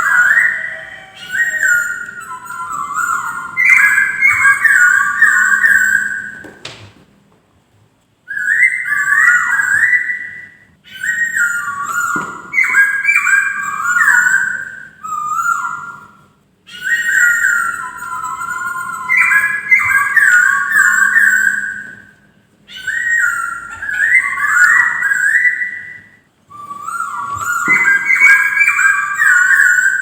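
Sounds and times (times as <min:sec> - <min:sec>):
bird singing whistled phrases: 0:00.0 - 0:06.6, 0:08.3 - 0:30.0.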